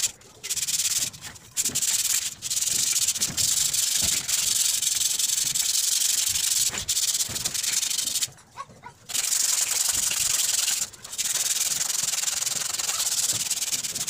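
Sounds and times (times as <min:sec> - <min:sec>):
sandpaper scraping metal: 0:00.0 - 0:08.3, 0:09.1 - 0:14.0.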